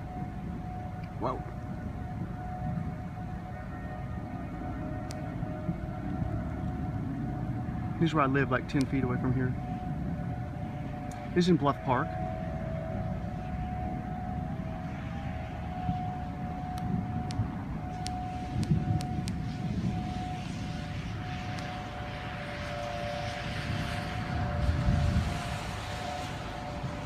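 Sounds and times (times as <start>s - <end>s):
distant warning sirens: 0.0s - 27.0s
wind rumbling on microphone: 0.0s - 27.0s.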